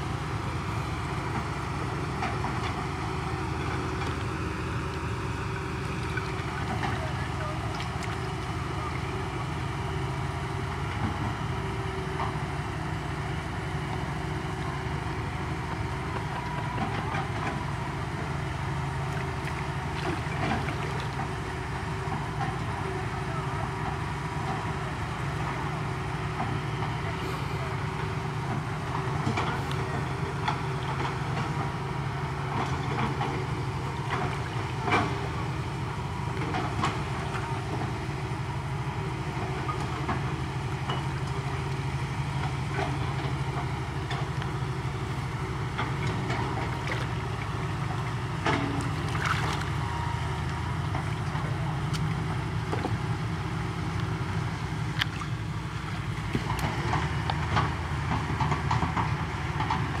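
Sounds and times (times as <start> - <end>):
water splashing and sloshing: 0.0 - 22.8, 23.8 - 60.0.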